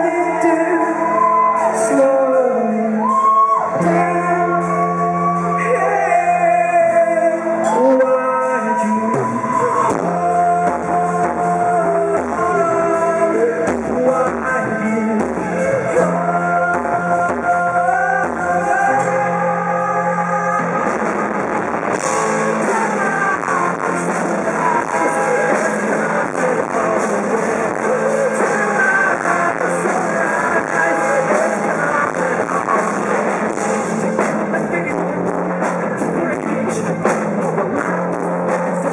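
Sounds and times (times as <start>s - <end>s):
man singing: 0.0s - 38.9s
rock band playing: 0.0s - 38.9s.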